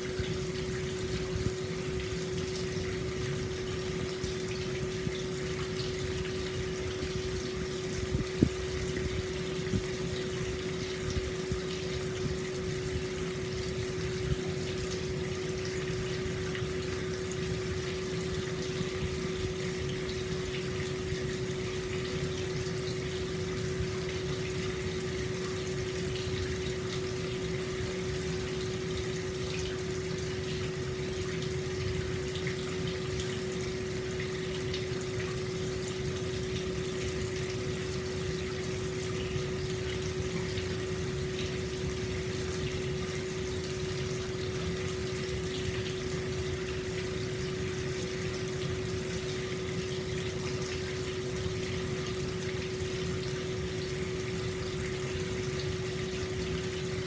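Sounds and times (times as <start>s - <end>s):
constant hum: 0.0s - 57.0s
water pouring and splashing: 0.0s - 57.0s.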